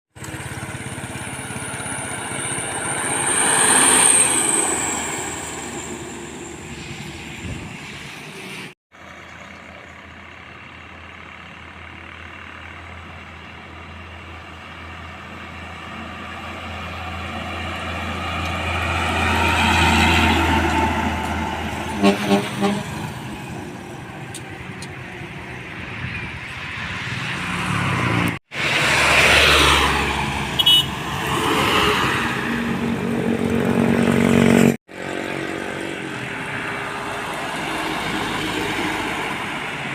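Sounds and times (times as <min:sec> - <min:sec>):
trucks passing: 0:00.2 - 0:39.9.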